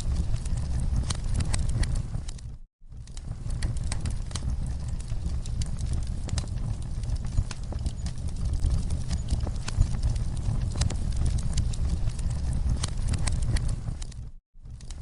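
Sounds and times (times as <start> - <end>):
low steady rumble: 0.0 - 15.0
wood fire crackling and popping: 0.0 - 15.0.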